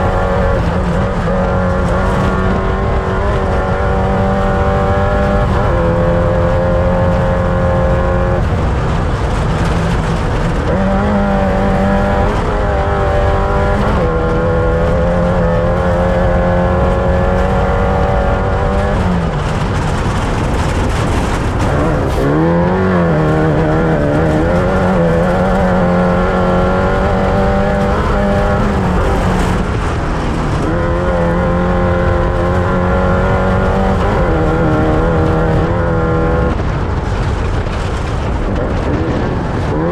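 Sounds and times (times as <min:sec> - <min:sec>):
engine revving at high revs: 0:00.0 - 0:37.8, 0:38.5 - 0:39.9
steady rush of noise: 0:00.0 - 0:39.9.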